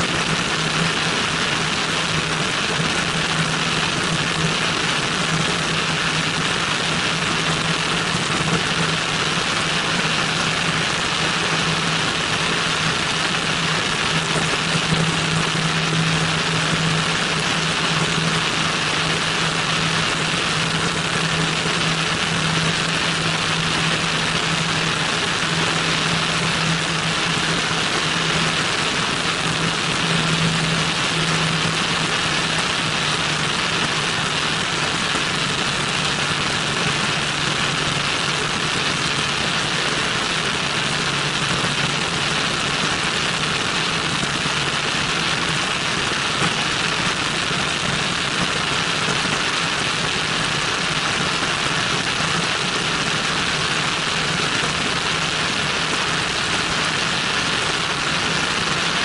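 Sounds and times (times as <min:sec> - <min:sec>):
airflow rushing over microphone: 0:00.0 - 0:59.0
airplane engine and propeller droning: 0:00.0 - 0:59.0.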